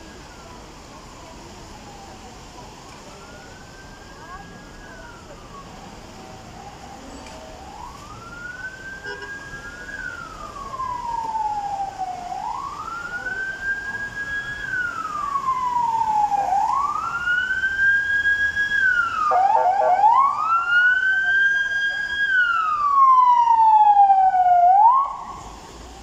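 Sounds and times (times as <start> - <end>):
emergency vehicle siren wailing: 0.0 - 26.0.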